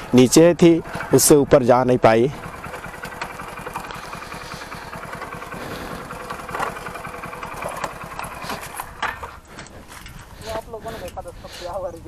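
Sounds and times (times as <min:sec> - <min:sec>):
motorcycle engine running at low revs: 0:00.0 - 0:10.4.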